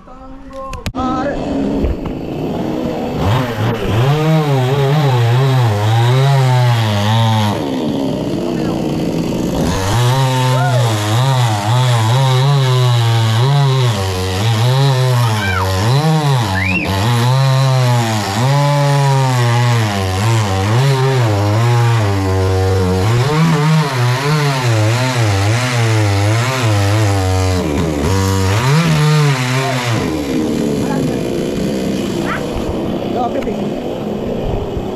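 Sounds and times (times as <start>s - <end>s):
chainsaw cutting wood: 1.6s - 34.8s.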